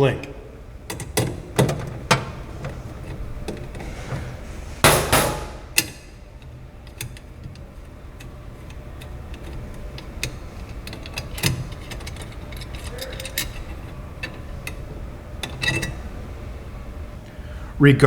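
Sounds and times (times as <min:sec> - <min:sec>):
metal tools clicking and clinking: 0:00.9 - 0:16.1.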